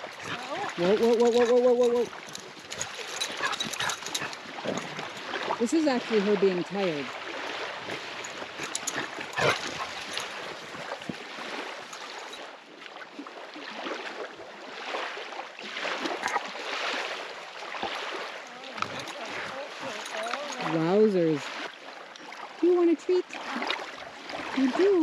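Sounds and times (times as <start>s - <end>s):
water rushing and splashing: 0.0s - 25.0s.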